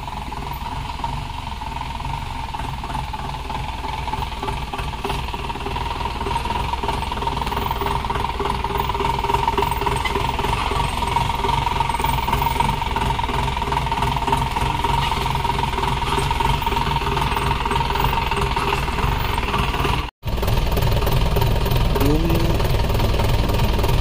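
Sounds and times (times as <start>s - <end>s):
jeep engine running at low revs: 0.0s - 24.0s.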